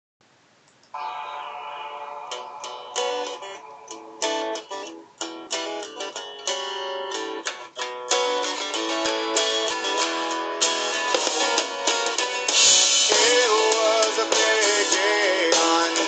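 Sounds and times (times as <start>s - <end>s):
plucked guitar through phone speaker: 0.9s - 16.0s.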